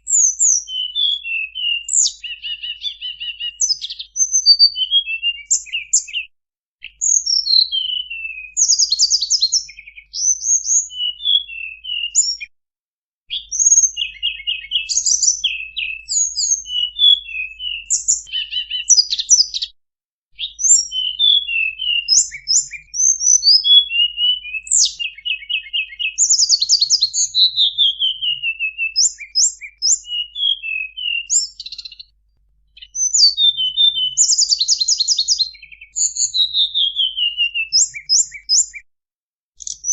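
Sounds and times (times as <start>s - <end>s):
bird chirps trills and whistles: 0.0s - 12.5s, 13.3s - 19.8s, 20.4s - 38.9s, 39.6s - 39.9s.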